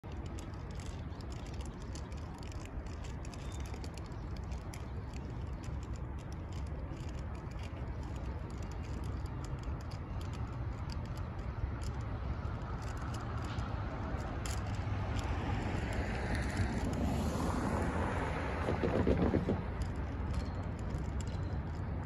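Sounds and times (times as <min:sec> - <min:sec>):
faint clicks and ticks: 0:00.0 - 0:22.0
low outdoor rumble: 0:00.0 - 0:22.0.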